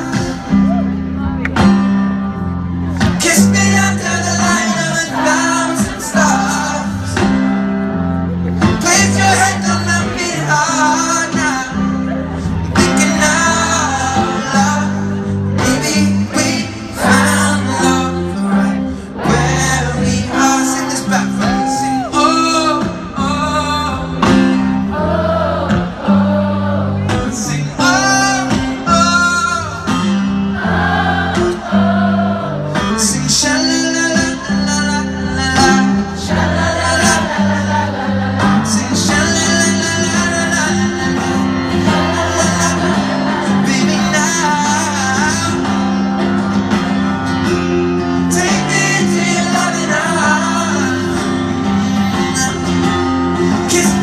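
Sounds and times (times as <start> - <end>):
man singing: 0.0 - 1.4, 2.9 - 30.3, 31.4 - 54.0
electric guitar: 0.0 - 54.0.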